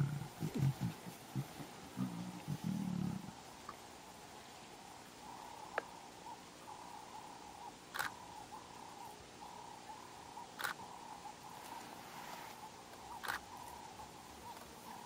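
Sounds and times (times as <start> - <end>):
faint chirping call: 0.0 - 15.0.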